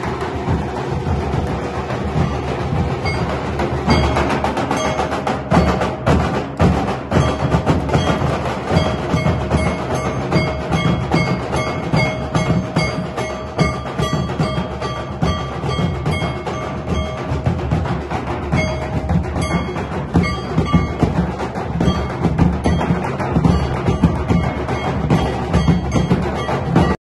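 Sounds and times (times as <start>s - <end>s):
dhol drums beating: 0.0s - 27.0s
sustained ringing tone: 2.2s - 6.0s, 7.2s - 17.6s, 18.5s - 27.0s.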